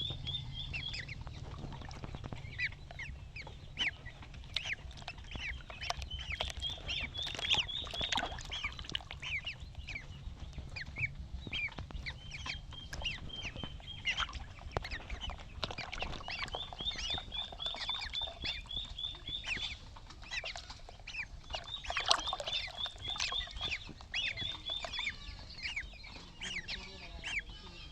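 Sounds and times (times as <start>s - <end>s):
ducklings peeping: 0.0s - 27.9s
low steady hum: 0.0s - 27.9s.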